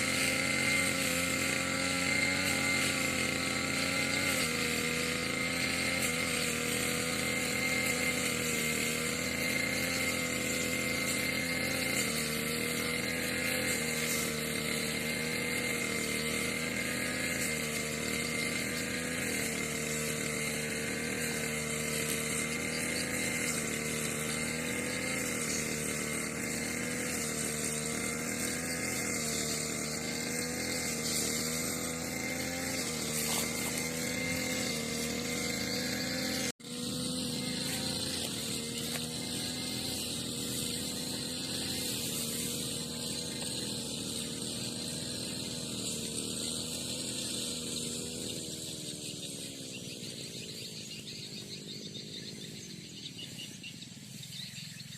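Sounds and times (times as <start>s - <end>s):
brush cutter engine cutting grass: 0.0s - 54.9s.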